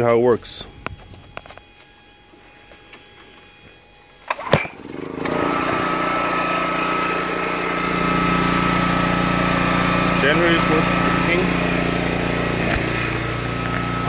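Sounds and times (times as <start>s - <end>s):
small generator engine running: 0.7s - 14.0s.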